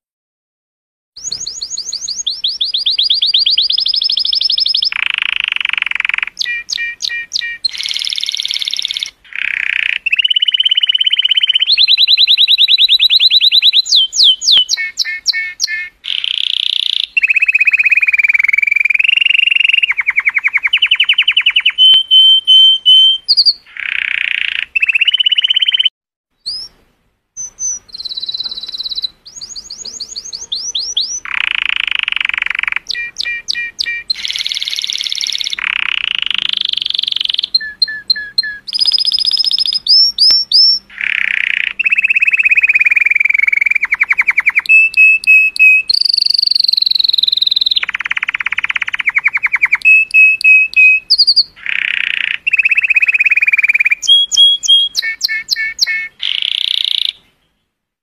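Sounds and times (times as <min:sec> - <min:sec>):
canary singing trills: 0:01.2 - 0:26.8, 0:27.4 - 0:57.7.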